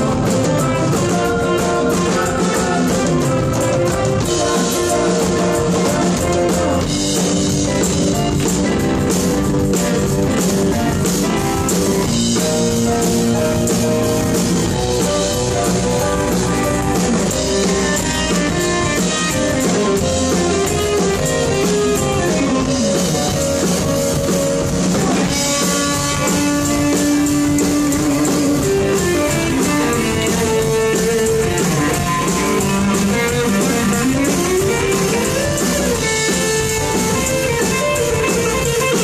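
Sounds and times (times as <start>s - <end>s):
bass guitar: 0.0s - 39.0s
drum kit: 0.0s - 39.0s
electric guitar lead: 0.0s - 39.0s.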